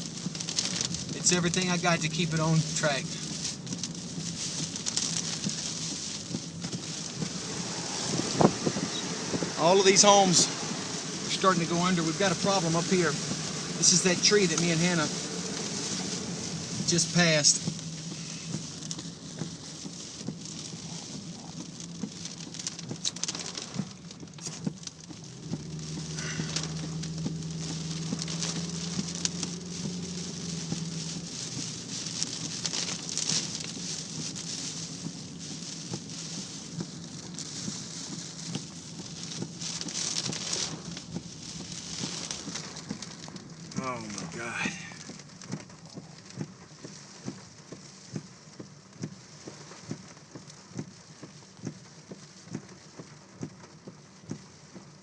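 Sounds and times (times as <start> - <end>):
heavy rain pelting a vehicle: 0.0 - 55.0
windshield wipers knocking: 0.0 - 55.0.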